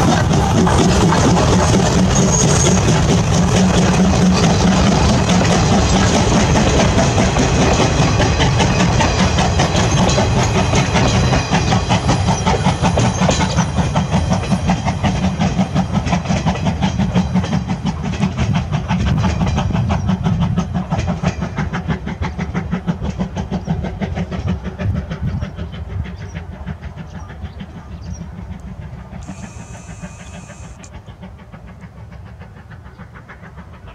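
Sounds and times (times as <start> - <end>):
wheel clatter on rails: 0.0 - 31.0
steam locomotive exhaust beats: 0.0 - 33.9.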